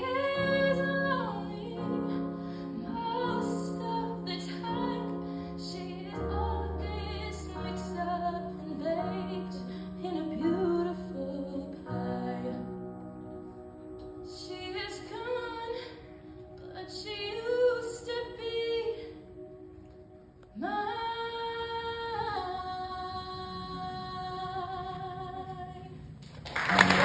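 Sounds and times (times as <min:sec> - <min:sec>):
girl singing into a microphone: 0:00.0 - 0:12.9, 0:14.3 - 0:19.2, 0:20.6 - 0:26.0
soft sustained accompaniment: 0:00.0 - 0:27.0.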